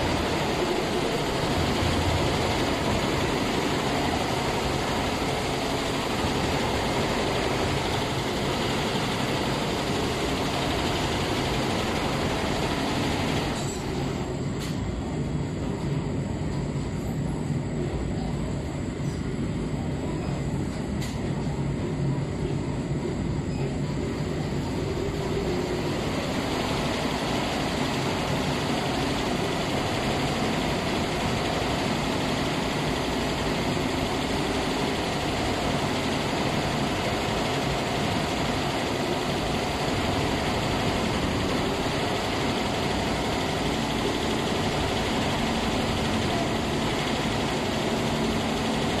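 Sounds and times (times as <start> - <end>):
laser cutting machine humming: 0.0 - 16.2, 17.1 - 49.0.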